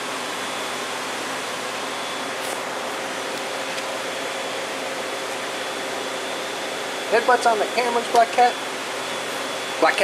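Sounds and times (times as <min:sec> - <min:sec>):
faint fan hum: 0:00.0 - 0:10.0.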